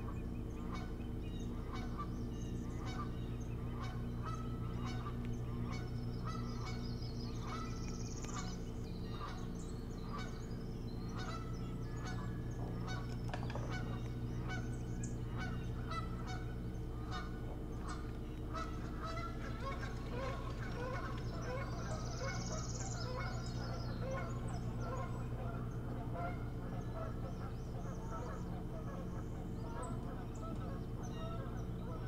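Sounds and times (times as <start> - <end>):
birds giving short calls: 0.0 - 32.0
steady low hum: 0.0 - 32.0.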